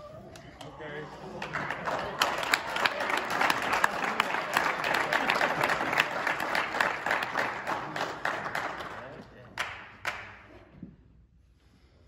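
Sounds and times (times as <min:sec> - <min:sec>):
audience applauding: 0:00.3 - 0:10.4.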